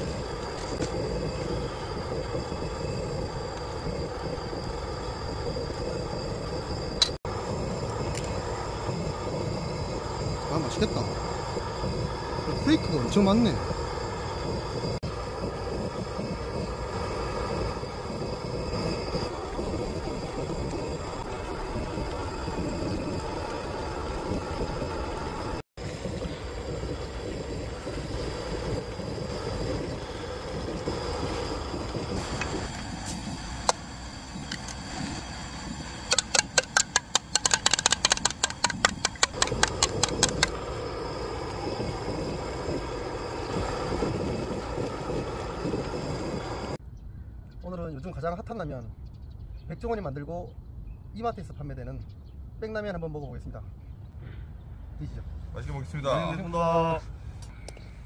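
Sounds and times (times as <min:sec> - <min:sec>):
gas burner hissing: 0:00.0 - 0:46.8.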